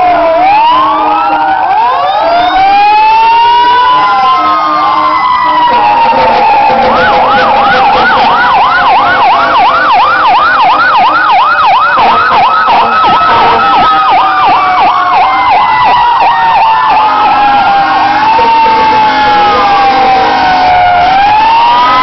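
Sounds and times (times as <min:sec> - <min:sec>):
siren yelping: 0:00.0 - 0:22.0
sirens wailing: 0:00.0 - 0:22.0.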